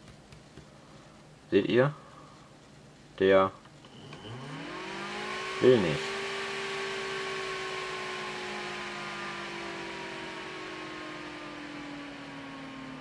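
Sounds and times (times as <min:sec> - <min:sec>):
cooler fan whirring: 0:00.0 - 0:13.0.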